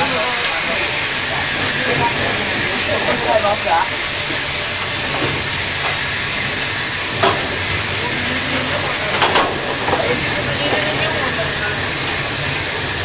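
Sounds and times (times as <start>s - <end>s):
steam locomotive hiss and running: 0.0s - 13.0s.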